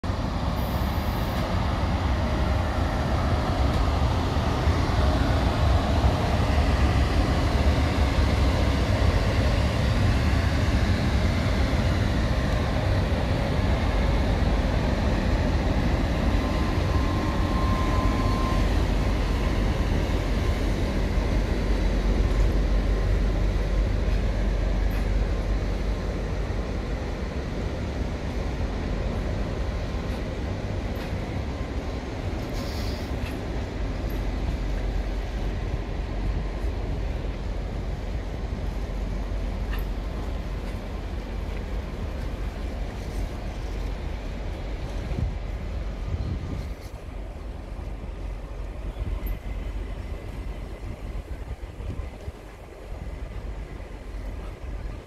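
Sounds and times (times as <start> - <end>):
passenger train rolling past: 0.0 - 55.0.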